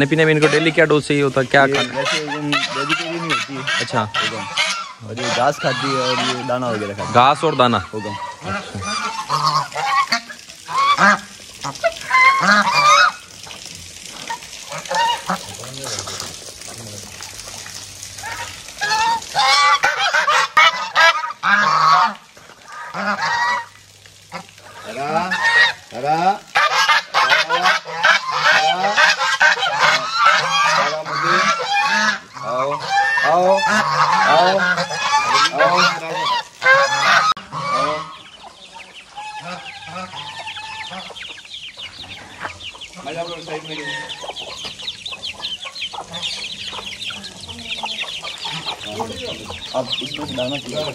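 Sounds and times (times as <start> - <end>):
poultry calling loudly: 0.0 - 50.9.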